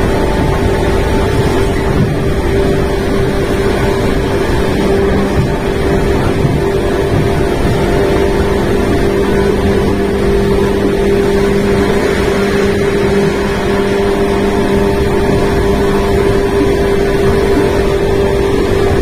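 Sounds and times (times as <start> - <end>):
train motor and gear hum: 0.0 - 19.0
train running noise: 0.0 - 19.0.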